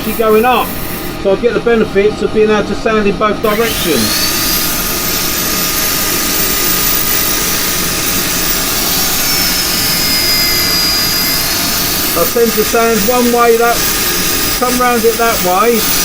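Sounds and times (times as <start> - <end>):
drill sanding wood: 0.0 - 1.8, 3.4 - 16.0.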